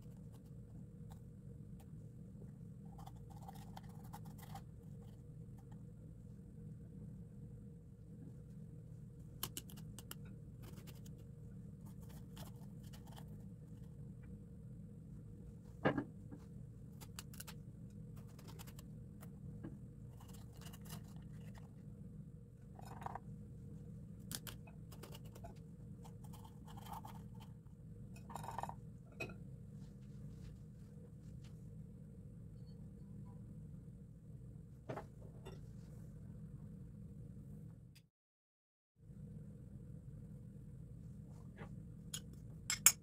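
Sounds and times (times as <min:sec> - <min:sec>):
low hum: 0:00.0 - 0:38.1, 0:39.0 - 0:42.9.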